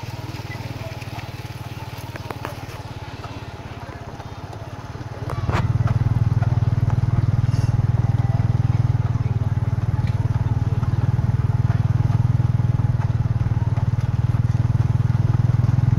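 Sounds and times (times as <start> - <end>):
small motorbike engine running: 0.0 - 15.9.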